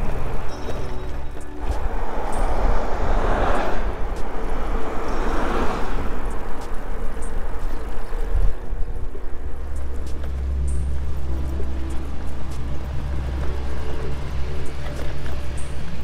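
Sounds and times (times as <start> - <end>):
cars passing: 0.0 - 16.0
steady low rumble: 0.0 - 16.0
wind buffeting microphone: 0.0 - 16.0.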